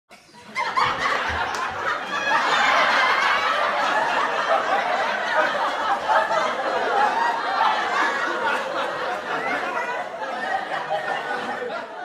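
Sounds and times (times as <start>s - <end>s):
studio audience laughing: 0.2s - 12.0s.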